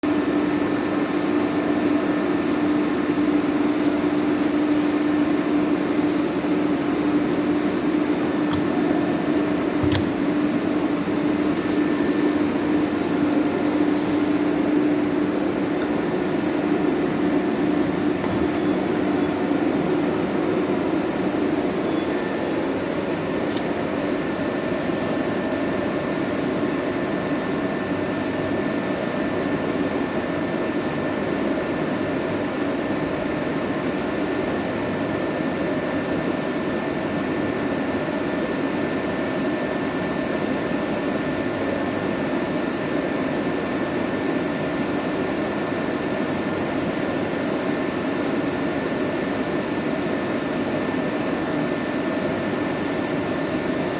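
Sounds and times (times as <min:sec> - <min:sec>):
lathe running with whine: 0:00.1 - 0:35.0, 0:35.6 - 0:53.9.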